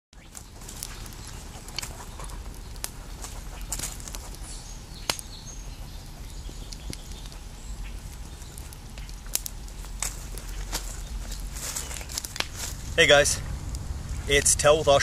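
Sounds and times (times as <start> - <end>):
campfire crackling: 0.2 - 15.0
fire popping: 0.2 - 15.0
low steady rumble: 0.2 - 15.0.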